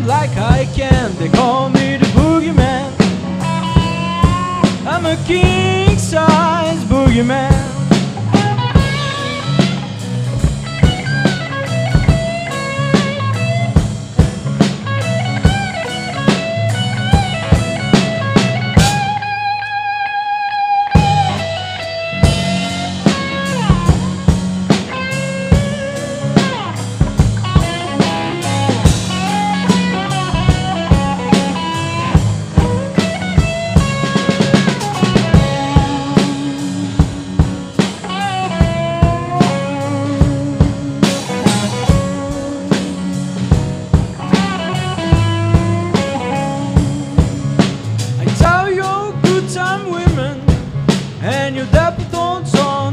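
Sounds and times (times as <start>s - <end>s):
bass line: 0.0s - 52.9s
drum kit beat: 0.0s - 52.9s
lead guitar with bent notes: 0.0s - 52.9s.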